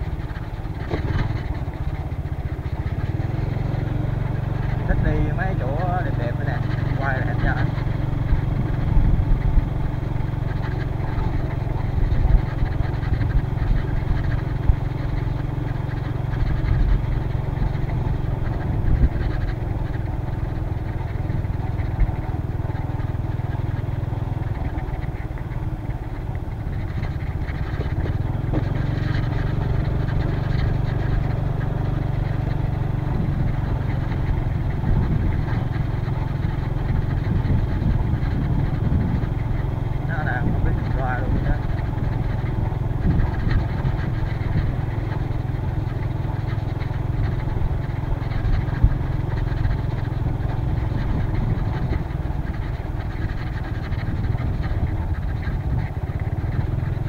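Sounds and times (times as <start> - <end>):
motor scooter engine droning: 0.0 - 57.0.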